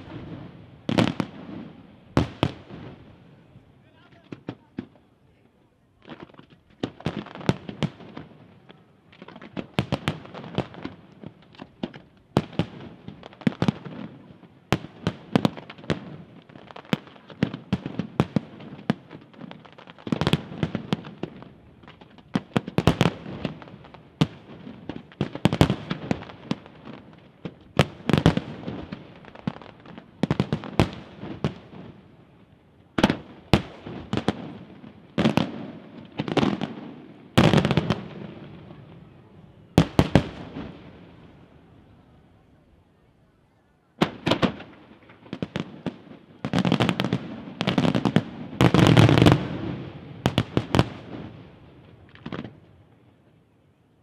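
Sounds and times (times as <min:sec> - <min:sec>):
fireworks crackling: 0:00.0 - 0:42.7, 0:43.9 - 0:53.5.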